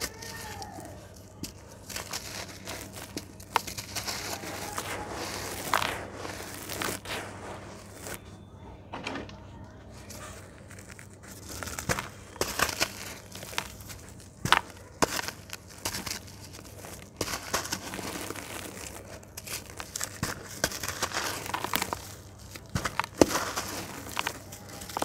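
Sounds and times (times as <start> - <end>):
hands crumbling clay: 0.0 - 8.4, 9.8 - 25.0
grit falling into basin: 1.4 - 8.2, 11.4 - 25.0.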